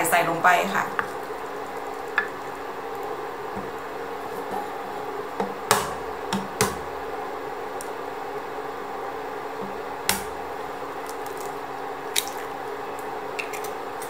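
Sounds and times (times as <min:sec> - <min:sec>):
water simmering in a frying pan: 0:00.0 - 0:14.0.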